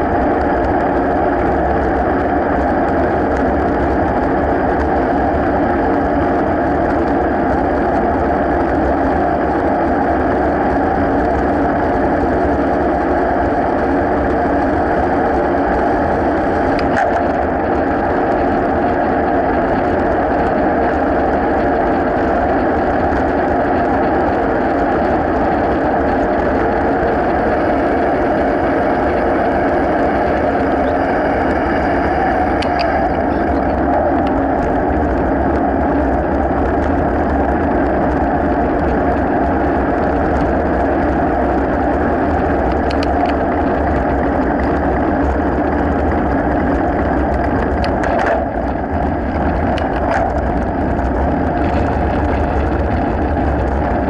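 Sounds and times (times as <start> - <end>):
bicycle tyre noise on asphalt: 0.0 - 54.0
wind on microphone: 0.0 - 54.0.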